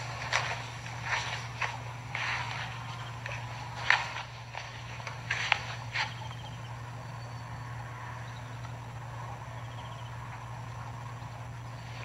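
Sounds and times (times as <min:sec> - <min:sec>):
faint outdoor background noise: 0:00.0 - 0:12.0
steady low hum: 0:00.0 - 0:12.0.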